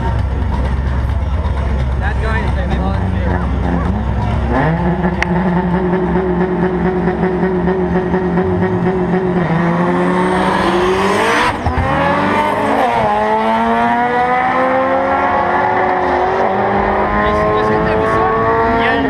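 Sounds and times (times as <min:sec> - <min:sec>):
drag race cars accelerating: 0:00.0 - 0:19.0.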